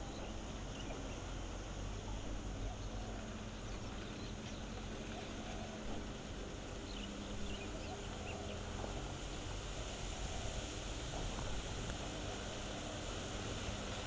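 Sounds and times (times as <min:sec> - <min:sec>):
lava fountain rumble and hiss: 0:00.0 - 0:14.0.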